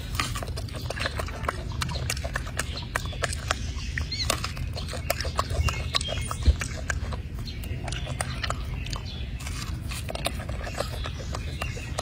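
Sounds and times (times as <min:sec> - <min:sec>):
monkey crunching apple: 0:00.0 - 0:12.0.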